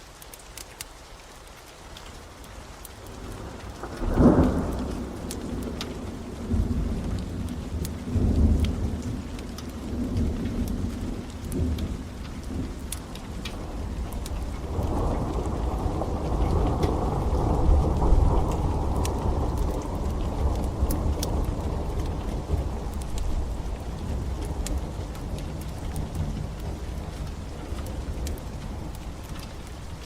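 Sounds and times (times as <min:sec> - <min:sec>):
steady rain: 0:00.0 - 0:30.0
wood fire crackling: 0:00.0 - 0:30.0
thunder rumbling: 0:03.1 - 0:30.0.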